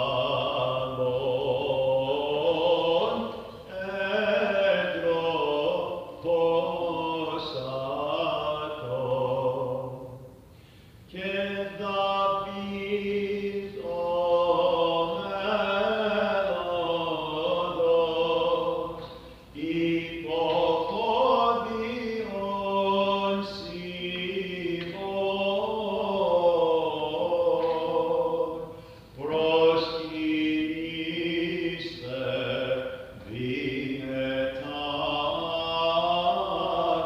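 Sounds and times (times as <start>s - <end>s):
chanted hymn: 0.0s - 10.4s, 11.1s - 37.0s.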